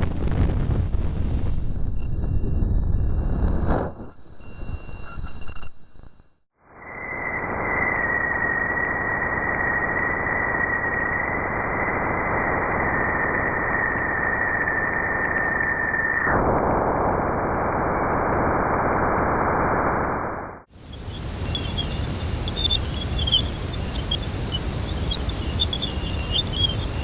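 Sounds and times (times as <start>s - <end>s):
radio static hiss: 0.0s - 6.5s, 7.4s - 27.0s.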